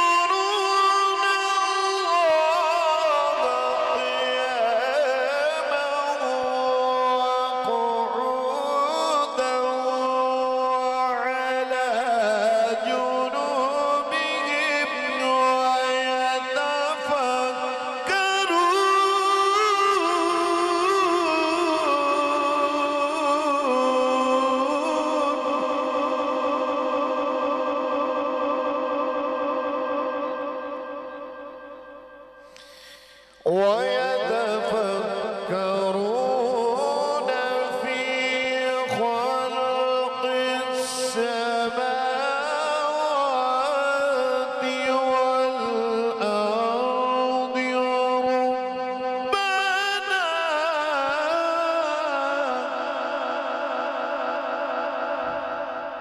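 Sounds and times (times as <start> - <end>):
man chanting: 0.0 - 31.8, 32.6 - 56.0.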